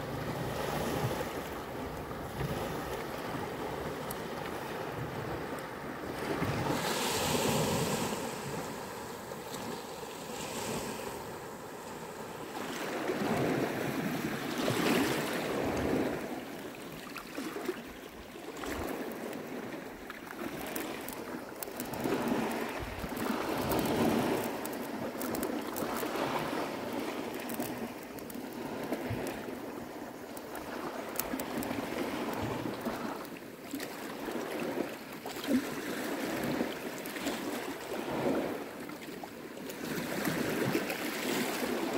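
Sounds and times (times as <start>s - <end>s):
waves washing onto pebbly shore: 0.0s - 41.9s
wind: 0.0s - 41.9s.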